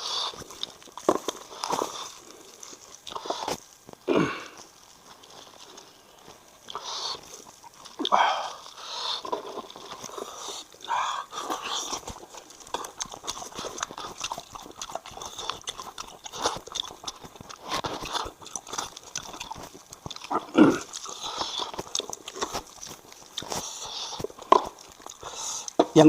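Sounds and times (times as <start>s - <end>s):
biting and chewing meat: 0.0s - 26.0s.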